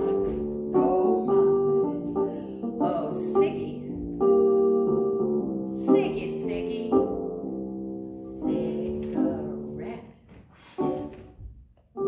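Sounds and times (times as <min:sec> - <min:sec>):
digital piano sustained chords: 0:00.0 - 0:09.9.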